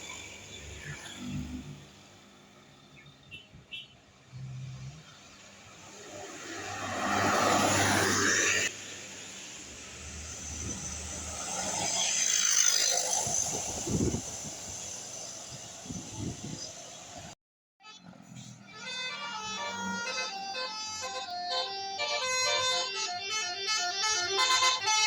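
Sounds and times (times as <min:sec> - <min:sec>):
buses passing: 0:00.0 - 0:25.0.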